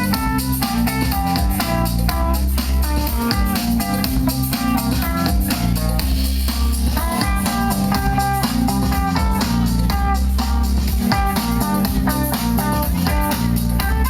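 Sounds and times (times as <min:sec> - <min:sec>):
bass guitar: 0:00.0 - 0:14.0
drum kit steady beat: 0:00.0 - 0:14.0.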